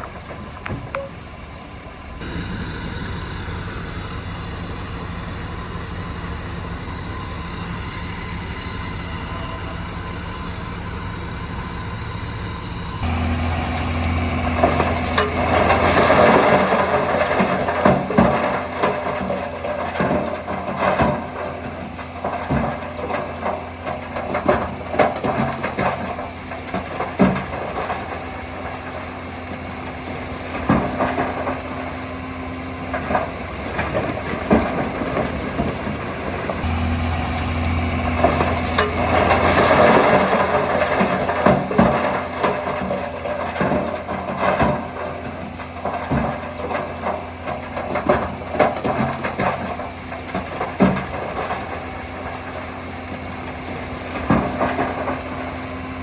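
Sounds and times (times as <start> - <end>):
bulldozer diesel engine running: 0.0 - 56.0
metal clanks and knocks: 4.1 - 56.0.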